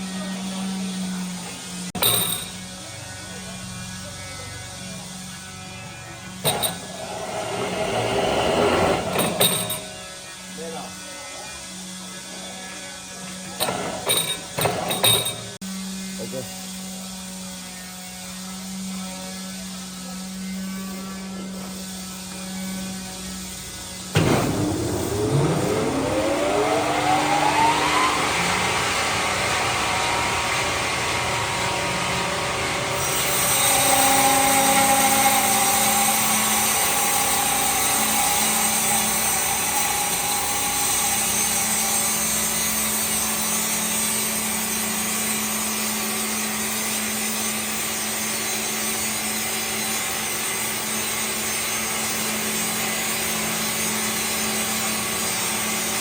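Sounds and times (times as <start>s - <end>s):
power tool cutting wood: 4.8s - 15.6s, 21.2s - 56.0s.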